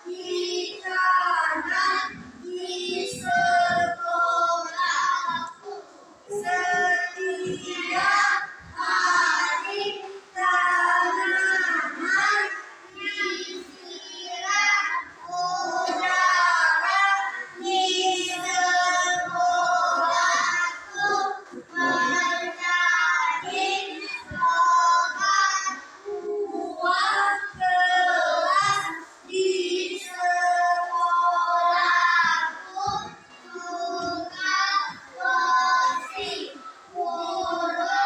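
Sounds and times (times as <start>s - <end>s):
children singing in unison: 0.0s - 38.0s.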